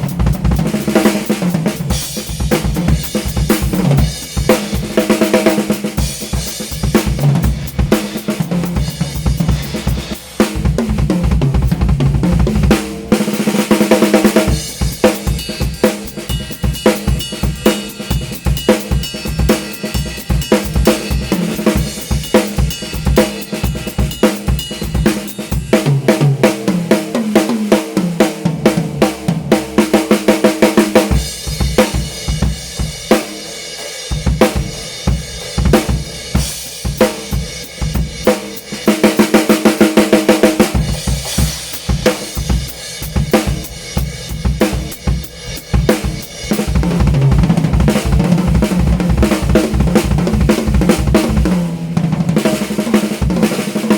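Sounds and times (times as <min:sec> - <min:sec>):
drum kit playing fast: 0:00.0 - 0:53.9.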